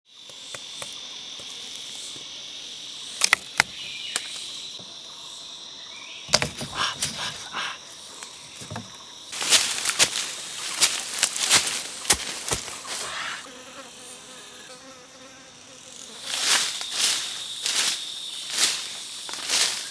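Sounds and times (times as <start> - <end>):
insects buzzing: 0.1 - 19.9.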